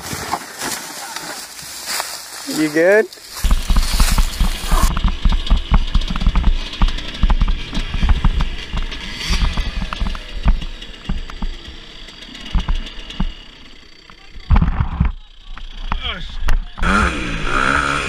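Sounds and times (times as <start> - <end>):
dirt bike engine: 0.0 - 18.0.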